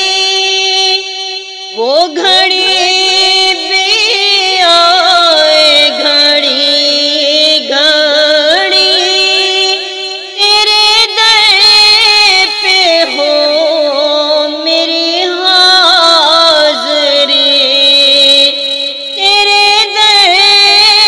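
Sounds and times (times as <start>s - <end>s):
high voice singing: 0.0s - 21.0s.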